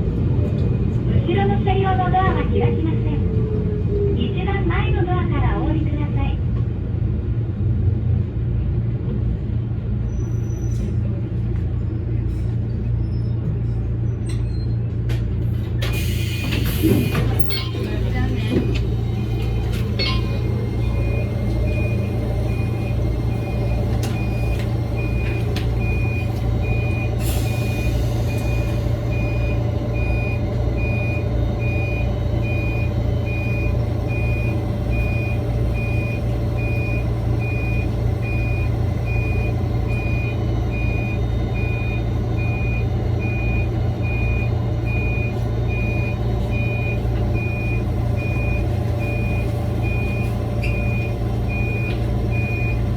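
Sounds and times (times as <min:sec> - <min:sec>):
electric train rumble and motor hum: 0:00.0 - 0:52.9.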